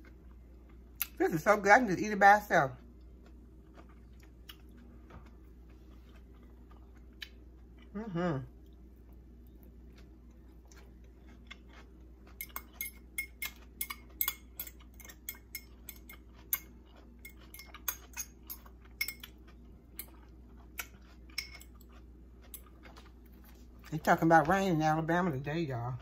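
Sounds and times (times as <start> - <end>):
faint low hum: 0.0 - 26.0
crunchy chewing: 2.7 - 24.4.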